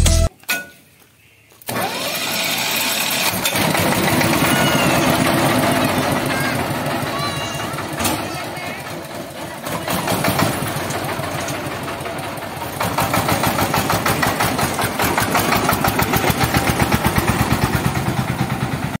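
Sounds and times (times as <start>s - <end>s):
single-cylinder diesel engine running: 1.7s - 19.0s.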